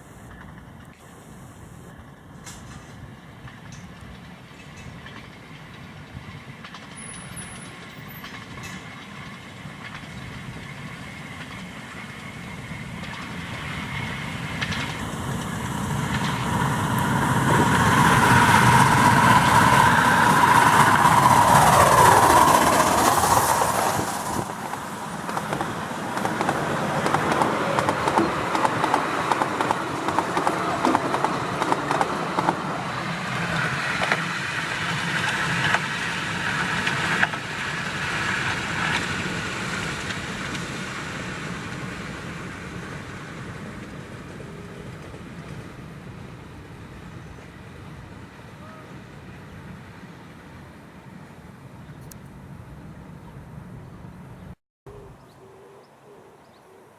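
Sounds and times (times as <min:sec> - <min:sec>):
wheels clacking over rail joints: 0:00.0 - 0:01.2, 0:01.9 - 0:53.3
miniature steam train passing: 0:00.0 - 0:55.1.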